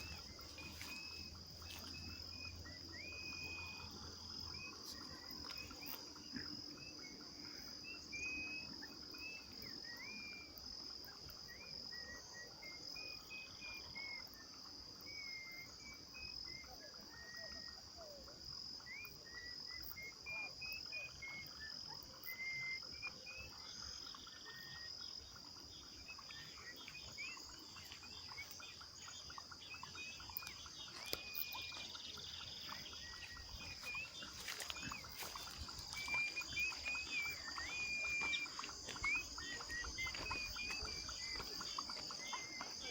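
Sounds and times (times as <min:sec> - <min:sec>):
birds whistling calls: 0:00.0 - 0:42.9
insects trilling: 0:00.0 - 0:42.9.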